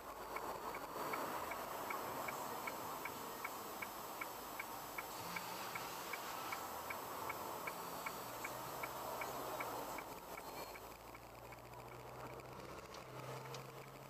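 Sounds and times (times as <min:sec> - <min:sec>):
turn signal ticking: 0:00.0 - 0:14.0.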